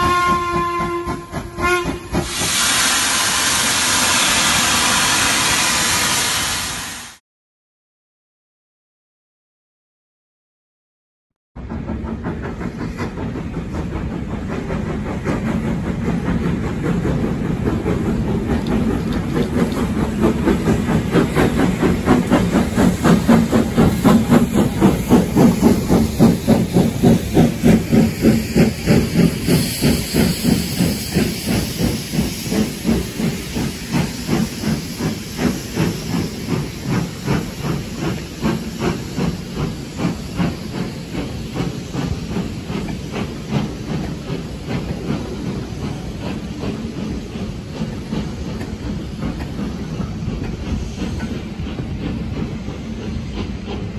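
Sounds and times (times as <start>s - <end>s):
steam locomotive exhaust beating: 0.0s - 7.2s, 11.6s - 53.9s.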